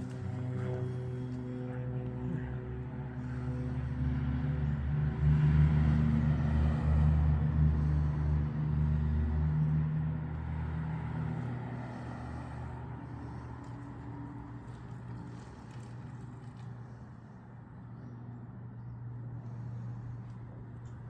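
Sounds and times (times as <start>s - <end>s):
turboprop engine drone: 0.0s - 21.0s.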